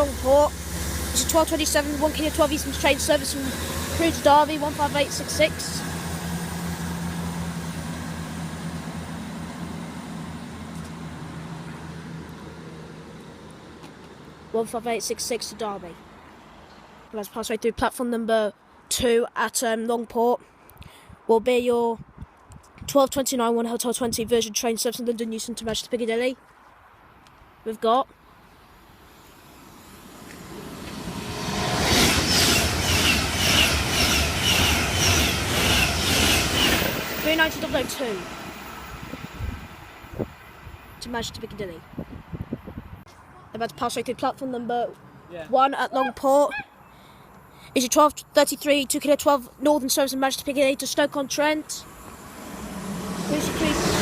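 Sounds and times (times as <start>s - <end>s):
diesel train engines droning: 0.0s - 17.5s, 28.2s - 54.0s.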